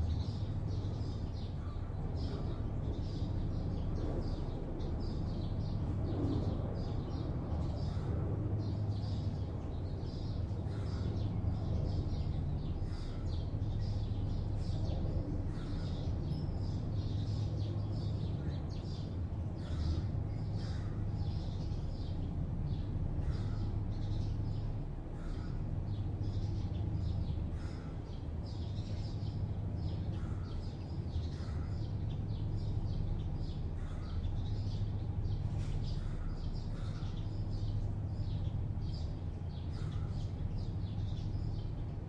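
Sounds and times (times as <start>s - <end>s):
city traffic hum: 0.0s - 42.0s
small birds chirping: 0.0s - 42.0s.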